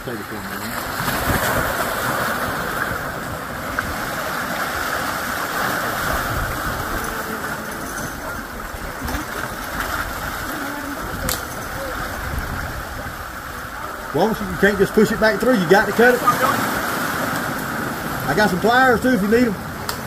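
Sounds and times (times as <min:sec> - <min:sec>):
shallow surf washing: 0:00.0 - 0:20.0.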